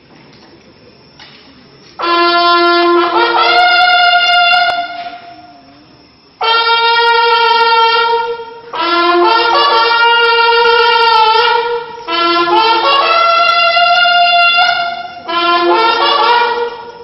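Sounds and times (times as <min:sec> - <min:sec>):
bugle corps holding long notes: 0:02.0 - 0:05.8, 0:06.4 - 0:17.0.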